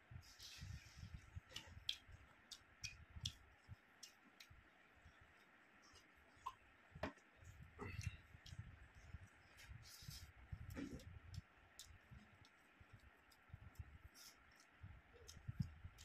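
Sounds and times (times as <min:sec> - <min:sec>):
fingers mixing rice: 0:00.2 - 0:16.0.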